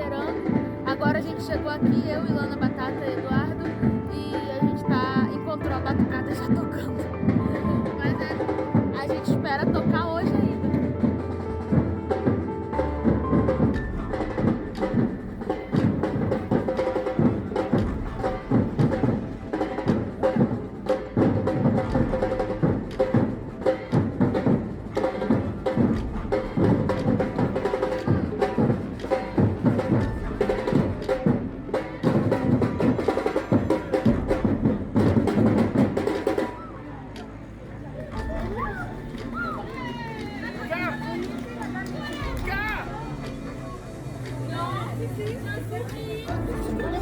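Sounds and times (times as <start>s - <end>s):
samba percussion ensemble drumming: 0.0s - 36.9s, 38.0s - 47.0s.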